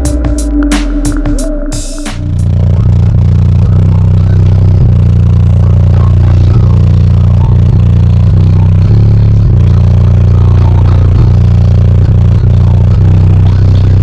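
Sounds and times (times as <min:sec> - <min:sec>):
loud deep bass from subwoofers: 0:00.0 - 0:14.0.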